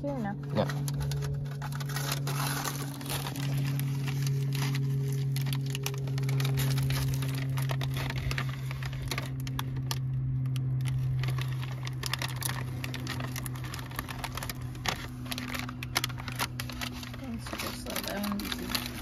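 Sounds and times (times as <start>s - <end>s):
steady low hum: 0.0s - 19.0s
newspaper crinkling and crackling: 0.3s - 19.0s.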